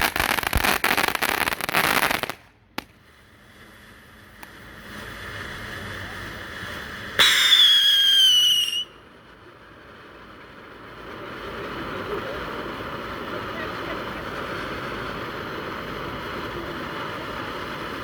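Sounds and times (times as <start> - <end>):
firework crackling: 0.0 - 18.0
sharp firework crack: 0.0 - 18.0
whistling firework: 0.0 - 18.0.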